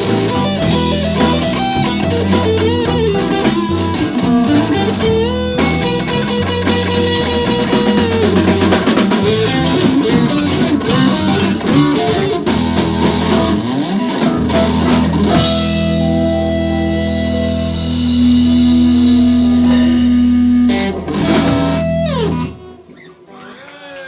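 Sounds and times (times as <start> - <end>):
guitar lead lines: 0.0 - 23.1
blues band playing: 0.0 - 23.3.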